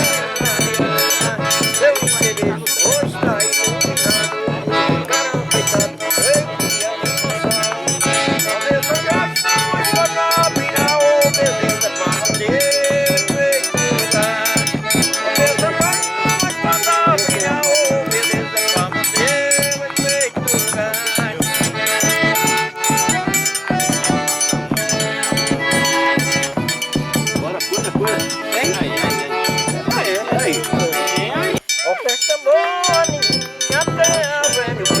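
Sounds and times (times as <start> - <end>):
accordion melody: 0.0 - 35.0
percussion beat: 0.0 - 35.0.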